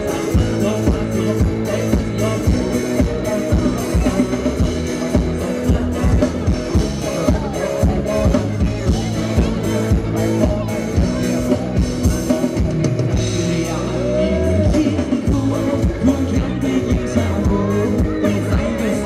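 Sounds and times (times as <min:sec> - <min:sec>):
live band dance music: 0:00.0 - 0:19.0.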